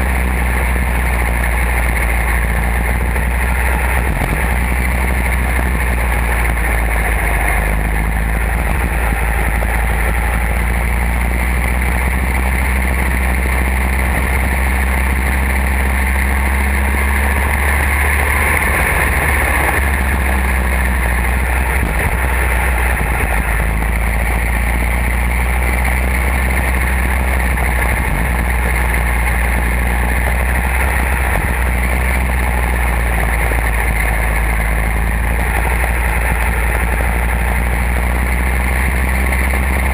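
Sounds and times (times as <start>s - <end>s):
go-kart engine droning: 0.0s - 39.9s.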